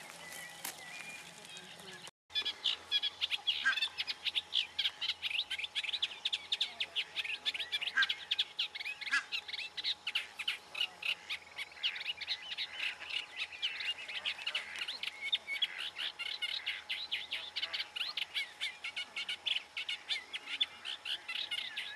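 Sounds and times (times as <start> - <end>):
reed warbler singing: 0.0 - 21.9.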